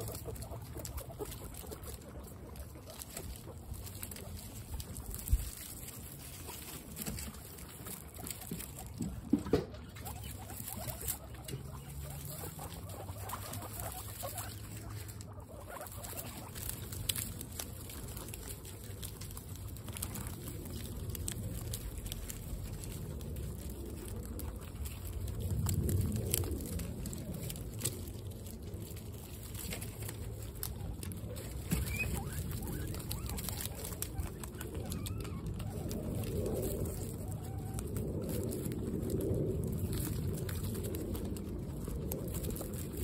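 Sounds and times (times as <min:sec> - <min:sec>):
guinea pigs rustling in straw: 0:00.0 - 0:43.0
guinea pigs sniffing: 0:00.0 - 0:43.0.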